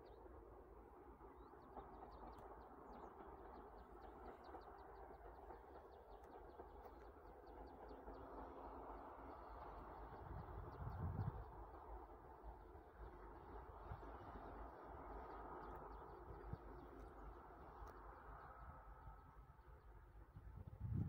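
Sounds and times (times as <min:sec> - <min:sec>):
distant diesel locomotive rumble: 0:00.0 - 0:21.0.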